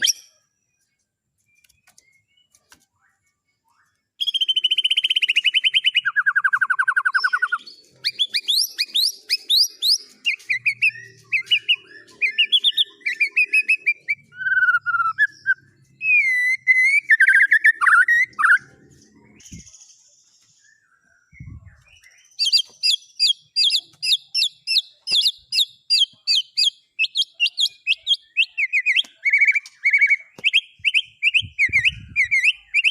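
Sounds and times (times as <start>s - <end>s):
songbird whistles and trills: 0.0s - 32.9s.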